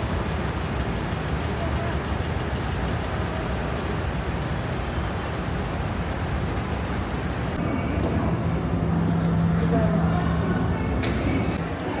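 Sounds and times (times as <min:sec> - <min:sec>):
passing traffic: 0:00.0 - 0:12.0.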